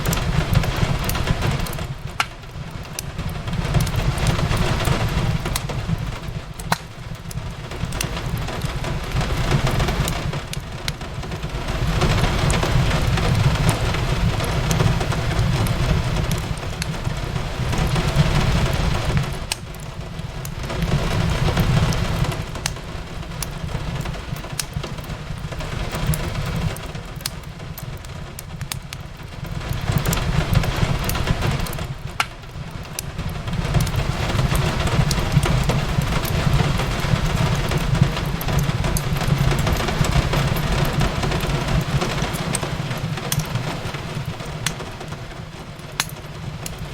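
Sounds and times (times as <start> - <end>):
steady rain hiss: 0.0 - 46.9
wood fire crackling and popping: 0.0 - 46.9.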